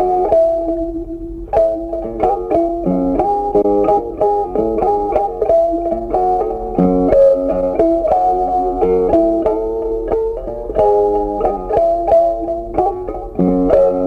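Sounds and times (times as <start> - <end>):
plucked guitar tune: 0.0 - 14.0.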